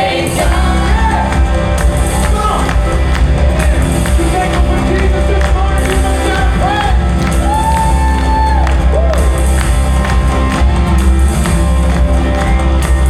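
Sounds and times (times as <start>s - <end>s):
live band music with drums: 0.4s - 12.6s.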